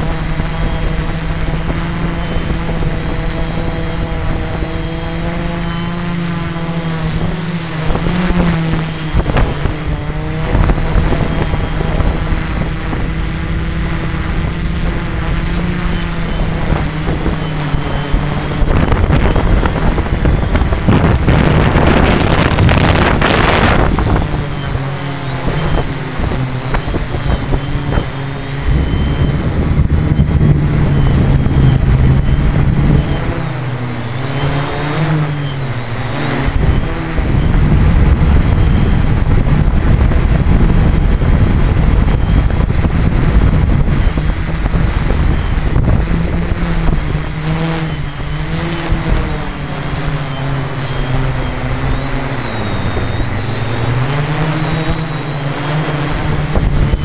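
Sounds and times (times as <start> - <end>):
drone motors buzzing: 0.0 - 57.0
wind on microphone: 0.0 - 57.0.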